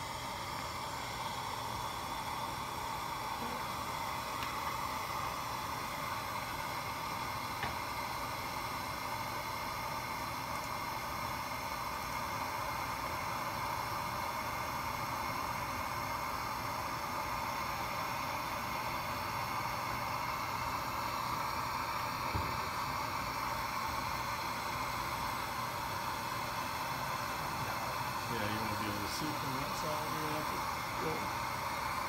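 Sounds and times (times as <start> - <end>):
equipment air-flow hiss: 0.0 - 32.0.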